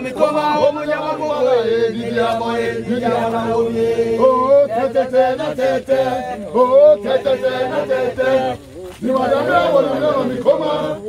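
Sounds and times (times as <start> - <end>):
group chanting in unison: 0.0 - 11.0.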